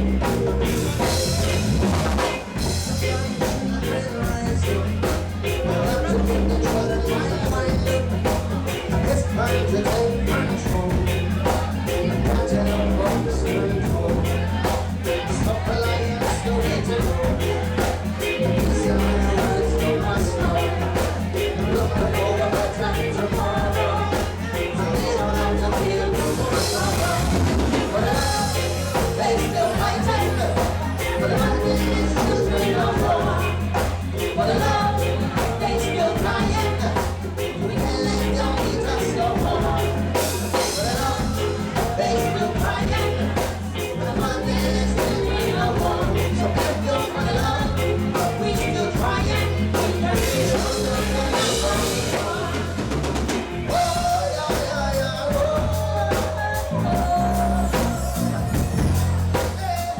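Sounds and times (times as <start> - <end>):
drum kit rhythm: 0.0 - 59.9
heavy bass line: 0.0 - 59.9
live reggae band playing: 0.0 - 59.9.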